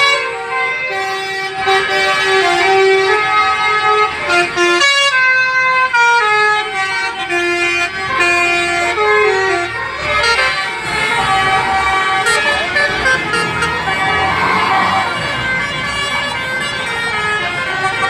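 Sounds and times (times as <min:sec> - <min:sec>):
musical bus horn playing a tune: 0:00.0 - 0:18.0.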